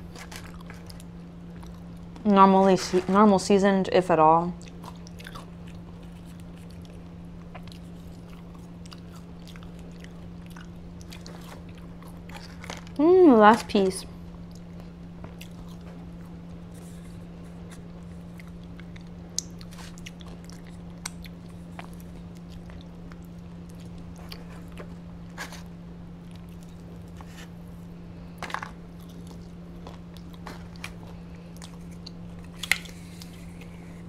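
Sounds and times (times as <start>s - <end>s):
person chewing crunchy food: 0.0s - 2.2s, 4.6s - 13.0s, 14.3s - 34.0s
steady low hum: 0.0s - 34.0s.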